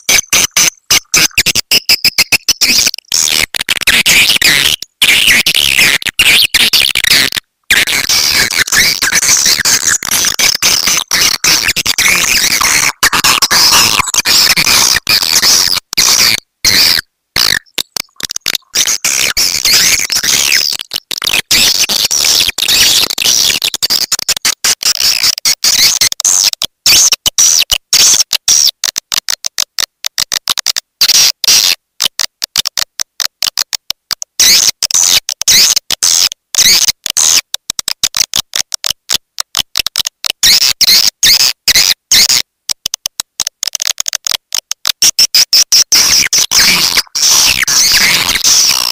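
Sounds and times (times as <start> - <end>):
high twittering chirps and clicks: 0.0 - 48.9.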